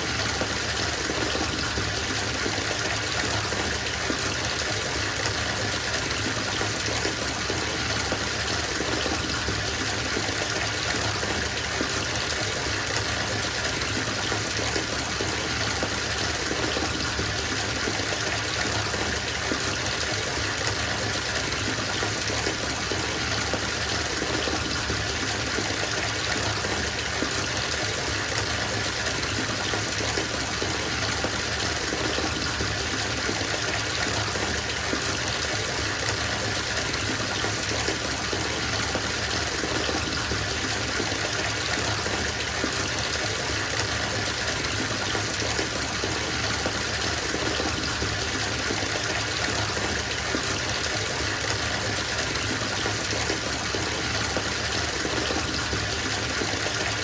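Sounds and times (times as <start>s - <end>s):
tap water pouring into bathtub: 0.0s - 57.0s.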